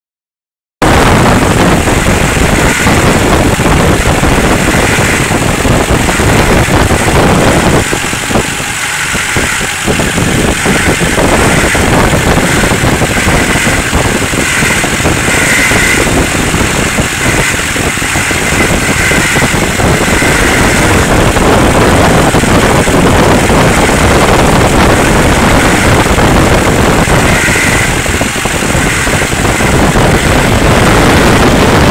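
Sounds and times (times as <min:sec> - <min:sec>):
diesel engine running: 0:00.8 - 0:31.9
humming buzz from engine: 0:00.8 - 0:31.9.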